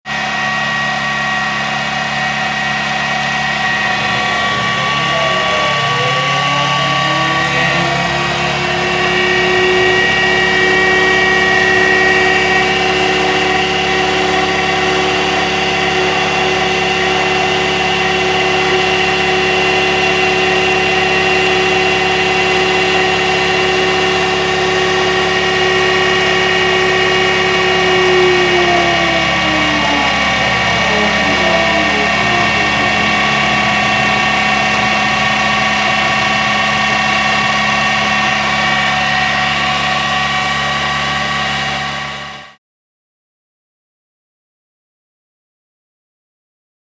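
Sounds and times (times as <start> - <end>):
model engine running: 0.1 - 42.6.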